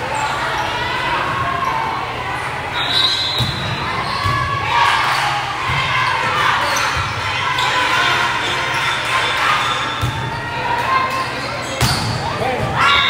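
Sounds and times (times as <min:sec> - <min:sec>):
murmur of spectators' voices: 0:00.0 - 0:13.0.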